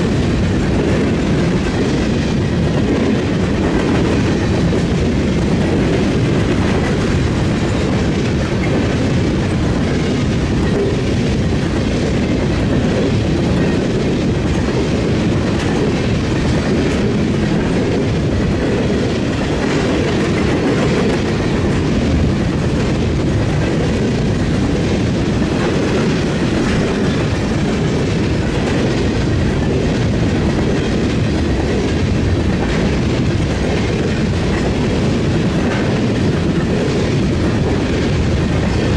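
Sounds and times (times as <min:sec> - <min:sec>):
train cars rumbling past: 0:00.0 - 0:38.9
wheels clacking over rail joints: 0:00.0 - 0:38.9.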